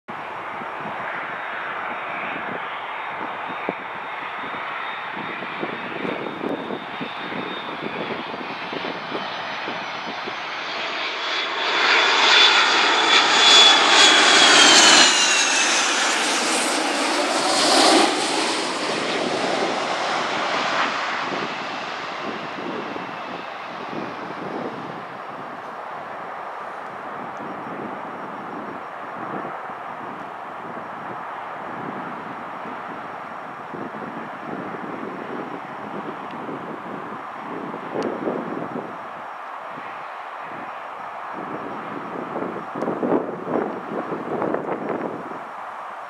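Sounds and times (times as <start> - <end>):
jet airliner engines: 0.1 - 46.0.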